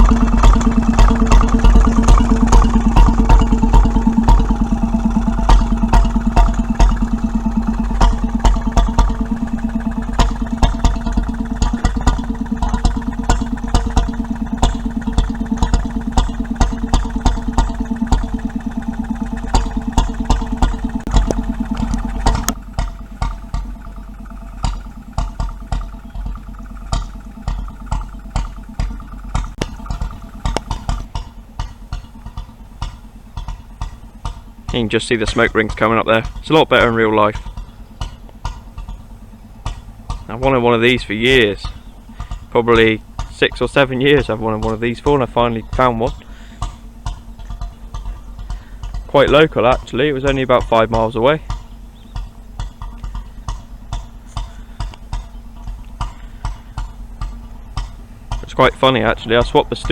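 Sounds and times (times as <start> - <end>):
stationary engine running: 0.0 - 59.9.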